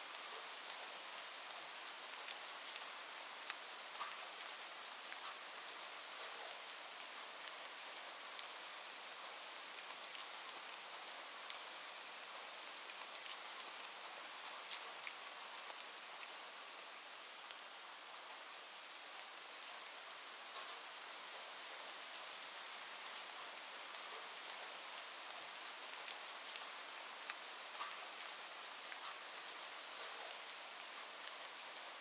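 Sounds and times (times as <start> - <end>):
rain hiss: 0.0 - 32.0
raindrops ticking on a surface: 0.0 - 32.0.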